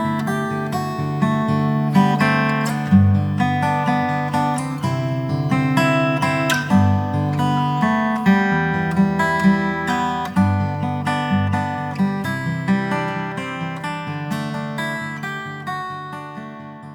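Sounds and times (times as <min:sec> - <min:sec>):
acoustic guitar strumming: 0:00.0 - 0:16.9.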